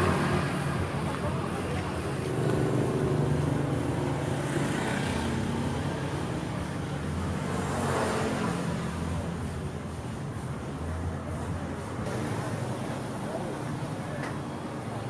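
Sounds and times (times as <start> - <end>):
vehicle engines on street: 0.0 - 15.0.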